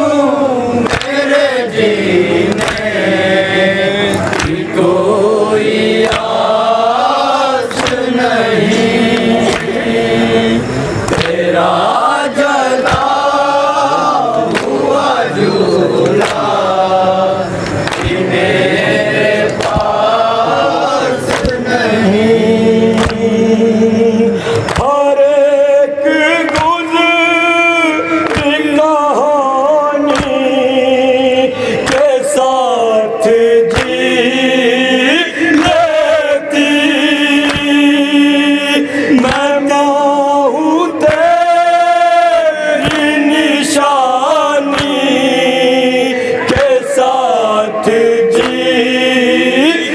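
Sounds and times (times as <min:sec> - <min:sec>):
men chanting a lament: 0:00.0 - 0:49.9.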